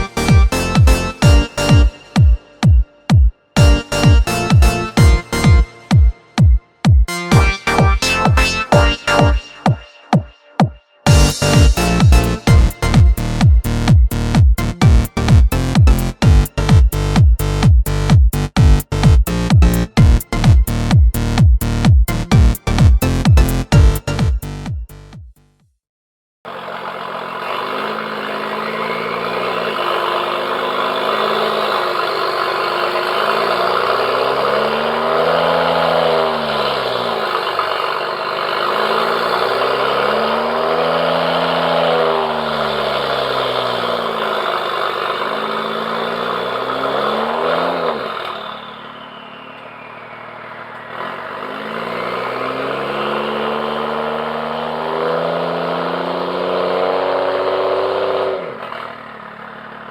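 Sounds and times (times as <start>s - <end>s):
car engine revving: 0.0s - 9.7s, 11.1s - 24.6s, 26.5s - 59.9s
car engine idling: 0.0s - 10.0s, 11.1s - 24.2s, 26.5s - 53.1s, 58.6s - 59.9s.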